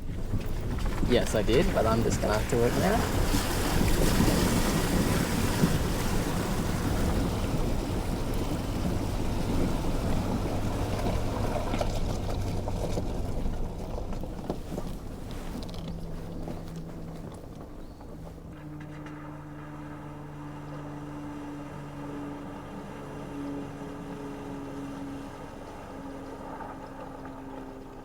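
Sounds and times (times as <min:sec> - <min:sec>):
engine hum: 0:00.0 - 0:28.0
water splashing around vehicle: 0:00.0 - 0:28.0.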